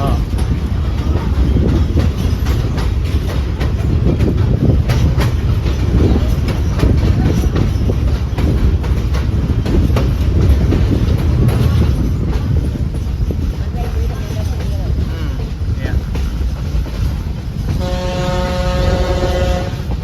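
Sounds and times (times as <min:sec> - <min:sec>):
train rumbling on rails: 0:00.0 - 0:20.0
wheels clacking over track: 0:00.0 - 0:20.0.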